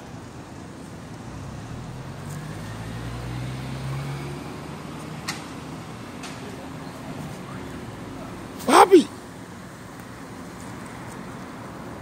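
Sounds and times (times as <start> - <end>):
motor vehicle hum: 0.0 - 12.0.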